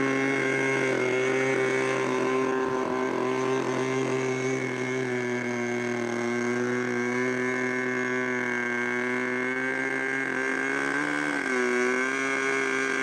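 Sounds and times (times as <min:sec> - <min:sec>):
model airplane engine running: 0:00.0 - 0:13.0.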